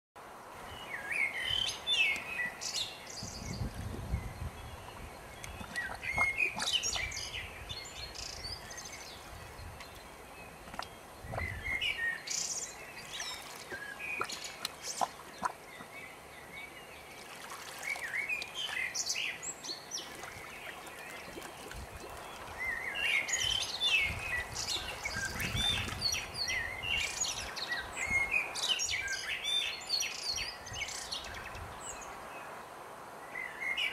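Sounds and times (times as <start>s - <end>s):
birds singing: 0.7s - 32.5s.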